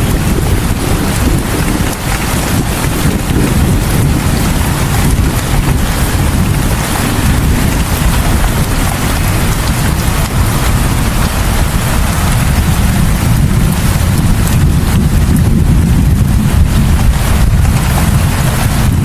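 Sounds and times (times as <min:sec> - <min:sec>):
dense low rumble: 0:00.0 - 0:19.0
heavy rain falling: 0:00.0 - 0:19.0.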